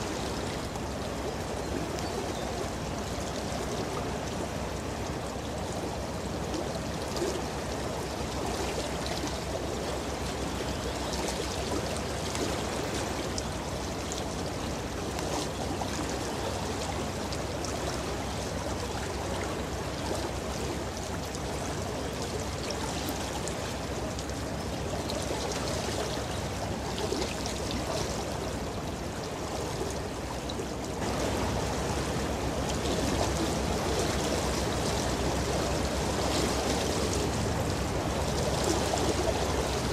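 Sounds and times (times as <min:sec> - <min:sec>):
ship bow wave rushing water: 0:00.0 - 0:39.9.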